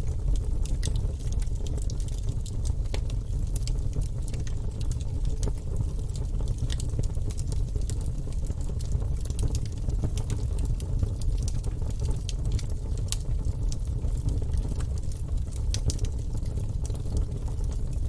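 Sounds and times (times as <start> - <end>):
logs crackling and popping: 0.0 - 18.0
low rumble of flames: 0.0 - 18.0.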